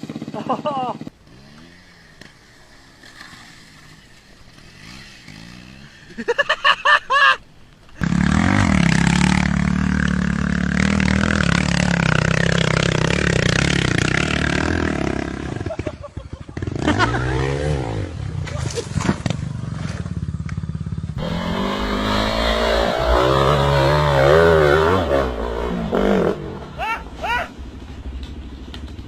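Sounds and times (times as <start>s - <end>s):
motorcycle engine revving: 0.0s - 6.4s, 8.0s - 29.0s.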